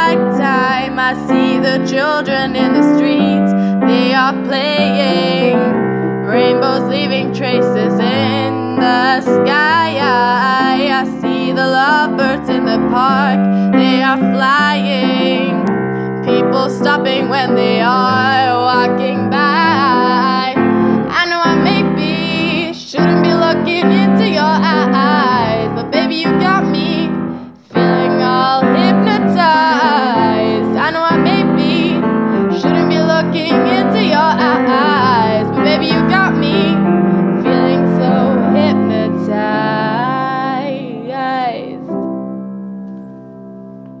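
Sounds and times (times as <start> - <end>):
woman singing: 0.0 - 42.0
piano chords: 0.0 - 44.0.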